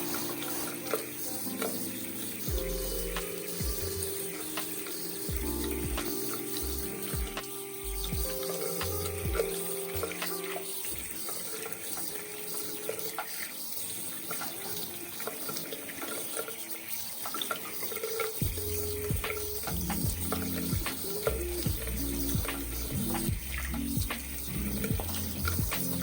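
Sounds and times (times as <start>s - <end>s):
soft background music: 0.0s - 26.0s
tap water running into sink: 0.0s - 26.0s.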